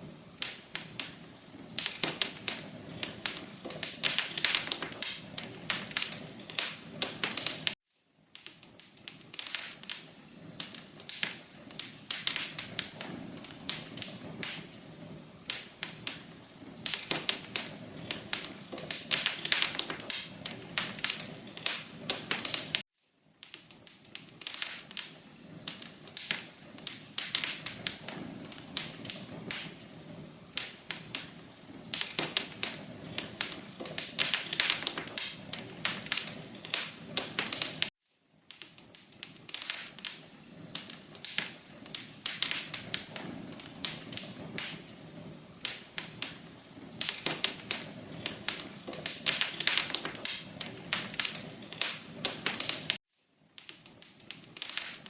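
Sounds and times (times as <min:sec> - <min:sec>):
low fire hiss: 0:00.0 - 0:55.0
wood fire crackling: 0:00.0 - 0:55.0.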